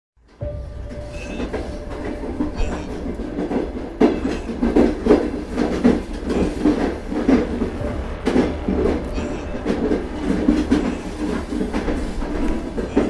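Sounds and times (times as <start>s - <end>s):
wheels clicking over rail joints: 0.7s - 13.0s.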